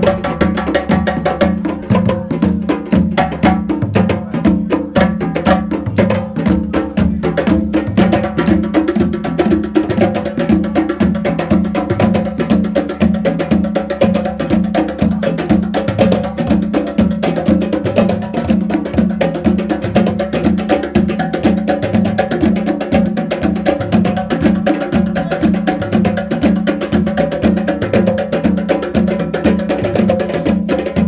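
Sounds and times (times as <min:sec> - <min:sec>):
hand drums playing fast groove: 0:00.0 - 0:31.0.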